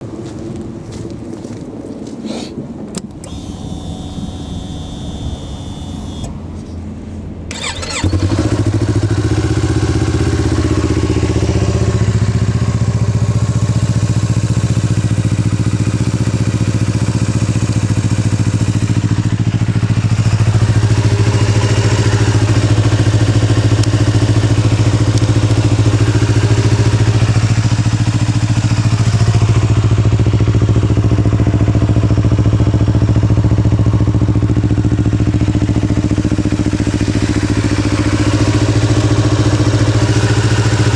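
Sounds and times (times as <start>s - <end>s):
motorcycle engine starting: 2.9s - 40.9s
motorcycle engine idling: 3.2s - 6.9s, 7.5s - 40.9s.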